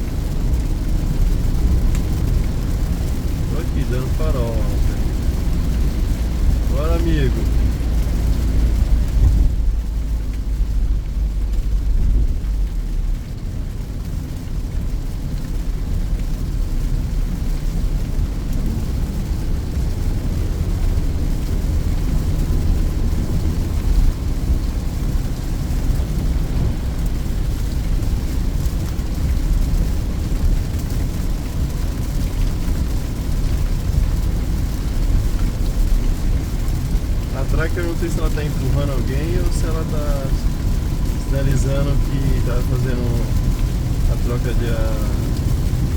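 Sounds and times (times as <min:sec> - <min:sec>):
car engine drone: 0:00.0 - 0:14.0, 0:18.6 - 0:45.9
tyres on the road: 0:00.0 - 0:45.9.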